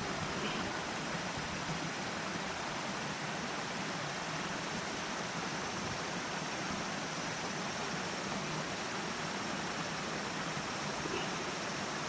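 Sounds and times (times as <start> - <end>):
river water rushing against bank: 0.0 - 12.0.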